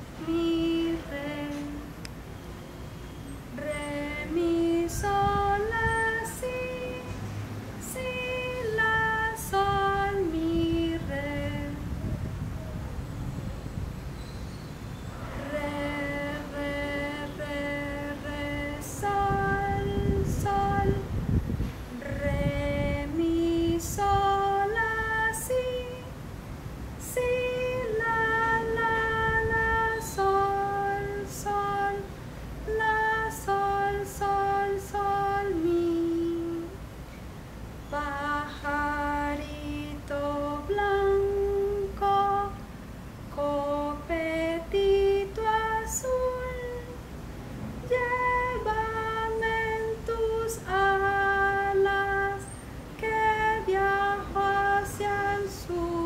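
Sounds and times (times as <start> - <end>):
woman singing unaccompanied: 0.0 - 12.6, 15.3 - 56.0.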